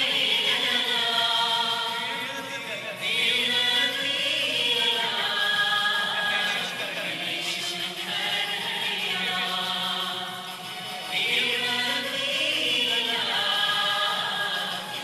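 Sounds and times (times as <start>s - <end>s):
slow sung church chant: 0.0s - 15.0s.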